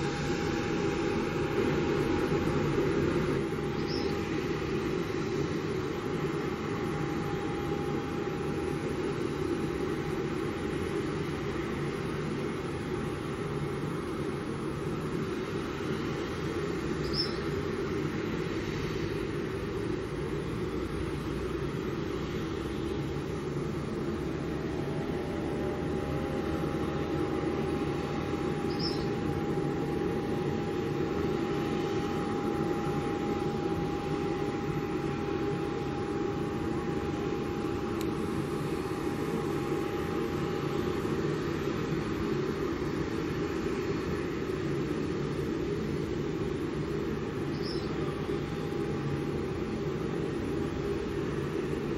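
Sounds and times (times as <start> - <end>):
faint steady whine: 0.0 - 51.9.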